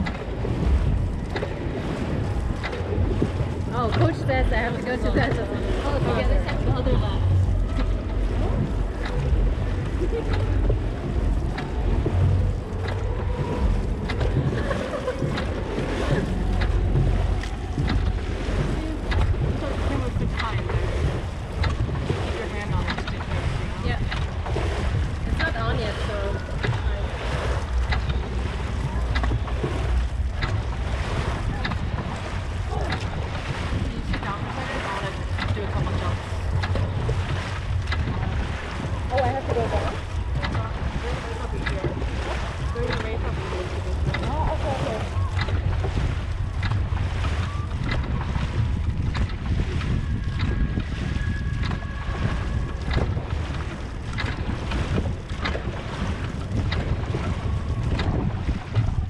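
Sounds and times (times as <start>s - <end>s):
water noise: 0.0s - 59.0s
wind buffeting microphone: 0.0s - 59.0s.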